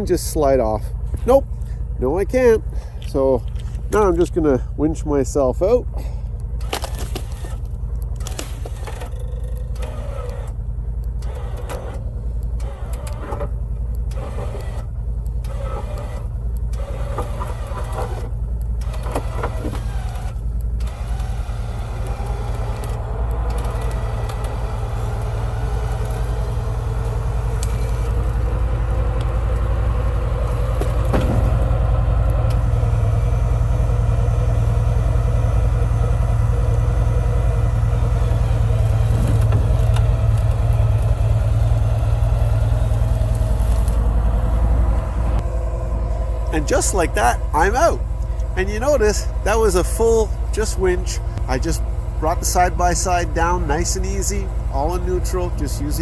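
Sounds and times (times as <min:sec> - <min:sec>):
vehicle engine idling hum: 0:00.0 - 0:56.0
electric winch motor under load: 0:06.6 - 0:56.0.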